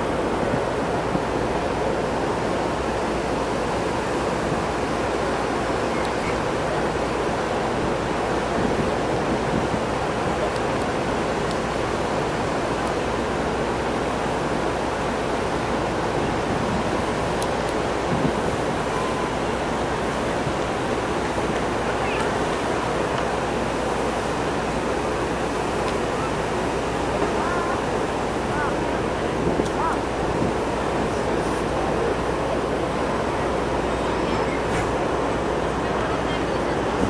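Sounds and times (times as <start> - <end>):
water rushing: 0.0 - 37.0.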